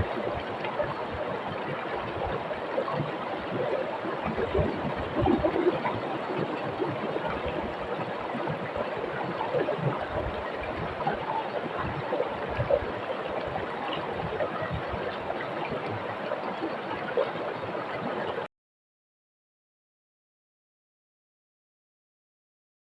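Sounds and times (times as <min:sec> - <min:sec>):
river rushing over stones: 0:00.0 - 0:18.5.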